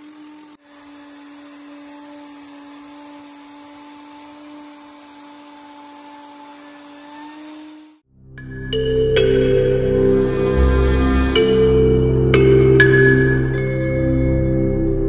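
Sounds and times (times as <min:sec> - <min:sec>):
router whining: 0:00.0 - 0:08.1, 0:09.2 - 0:15.0.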